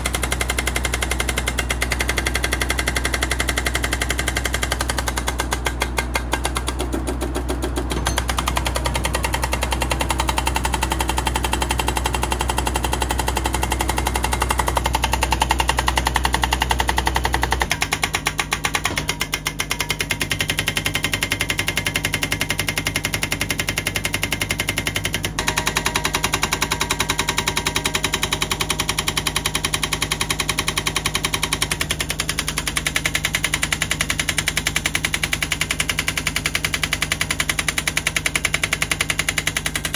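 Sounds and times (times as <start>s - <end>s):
excavator engine running: 0.0s - 39.9s
hydraulic breaker hammering rock: 0.0s - 39.9s.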